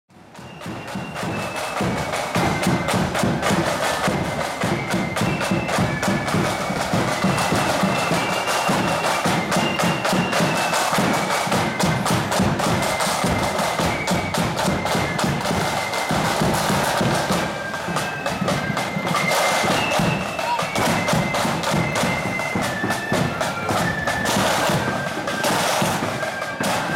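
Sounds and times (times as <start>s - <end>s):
marching band melody: 0.1s - 26.9s
snare and bass drums: 0.2s - 26.9s.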